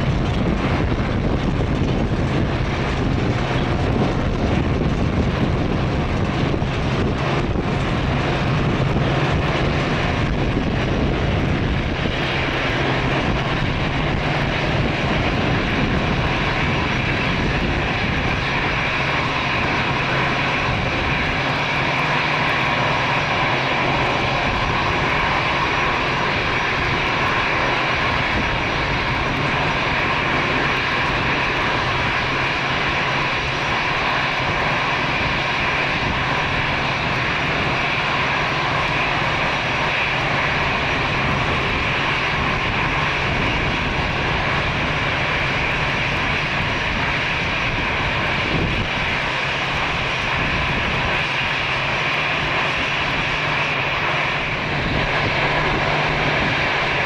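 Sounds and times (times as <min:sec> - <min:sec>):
jet engines whining at taxi: 0:00.0 - 0:57.0.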